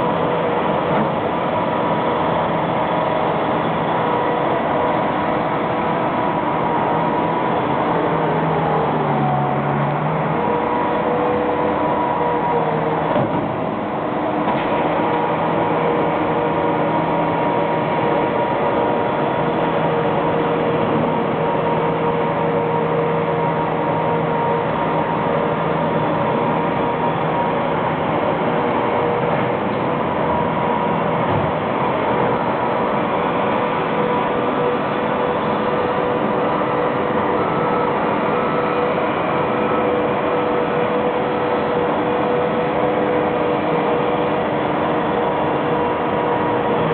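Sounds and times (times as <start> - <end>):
tractor engine hum: 0.0 - 46.9.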